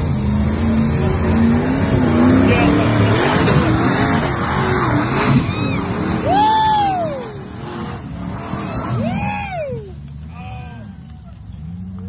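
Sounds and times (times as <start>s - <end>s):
buggy engine revving hard: 0.0s - 12.0s.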